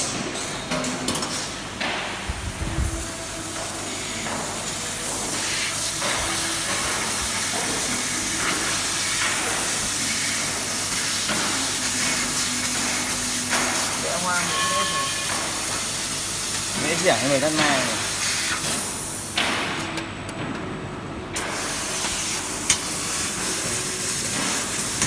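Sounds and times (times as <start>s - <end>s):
laser cutter gas jet hissing: 2.2s - 19.8s, 21.4s - 25.0s.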